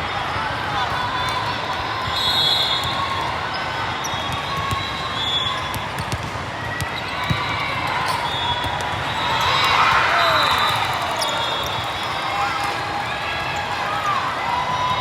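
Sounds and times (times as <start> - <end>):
crowd chatter in a hall: 0.0 - 15.0.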